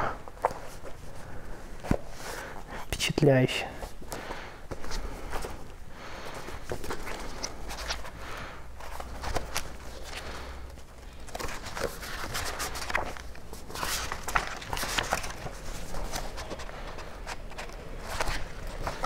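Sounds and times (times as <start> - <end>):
book pages rustling: 0.2 - 2.6, 3.8 - 19.0.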